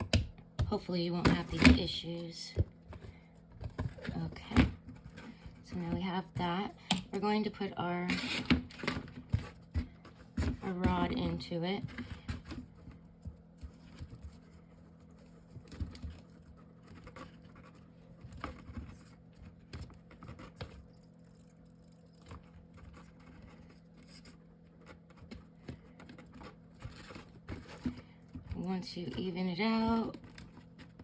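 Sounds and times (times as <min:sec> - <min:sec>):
paper and board taps and scratches: 0:00.0 - 0:31.0
steady low hum: 0:00.0 - 0:31.0.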